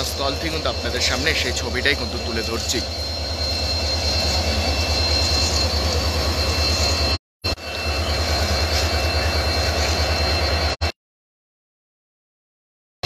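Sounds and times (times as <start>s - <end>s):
locomotive idling: 0.0s - 10.8s
thin high whine: 0.0s - 10.9s.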